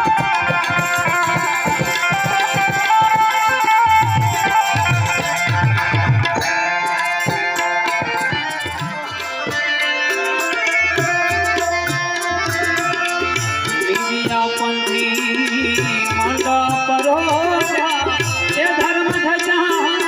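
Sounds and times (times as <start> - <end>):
harmonium melody: 0.0 - 20.0
tabla drumming: 0.0 - 20.0.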